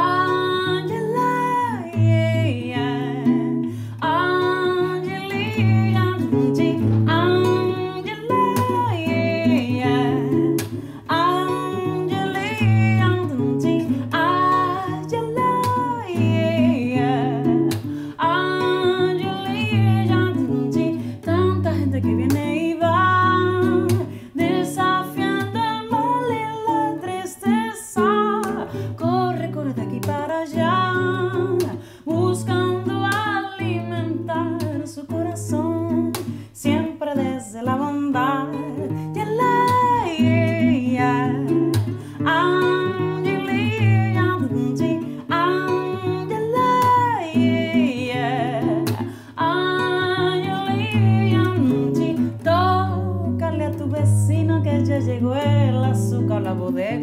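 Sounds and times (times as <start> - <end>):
nylon-string guitar plucked: 0.0 - 57.0
woman singing: 0.0 - 57.0.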